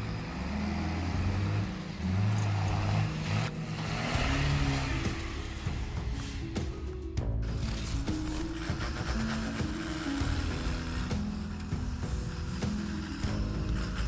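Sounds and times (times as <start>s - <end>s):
background music: 0.0s - 14.0s
heavy vehicle engine running: 0.0s - 14.0s.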